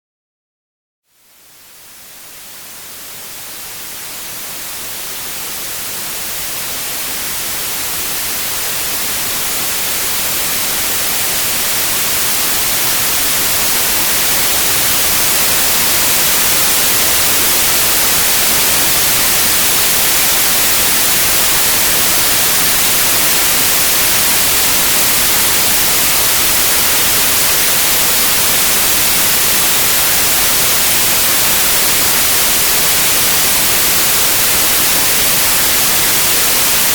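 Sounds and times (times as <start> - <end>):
white noise hiss: 1.1 - 36.9.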